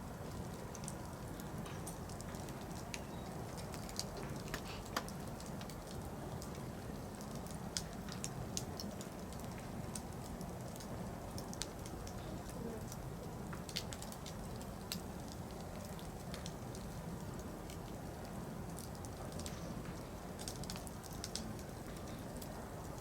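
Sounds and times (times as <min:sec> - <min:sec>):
low rumble of flame: 0:00.0 - 0:23.0
campfire crackling and popping: 0:00.1 - 0:23.0.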